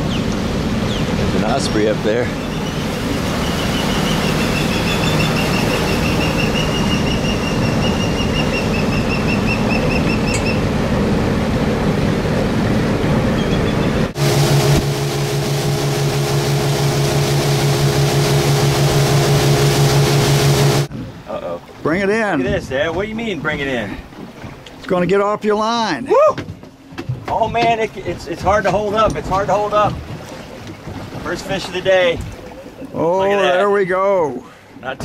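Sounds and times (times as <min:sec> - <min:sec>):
motorboat engine humming: 0:00.0 - 0:25.2, 0:26.6 - 0:34.9
rush of wind and water: 0:00.0 - 0:35.0.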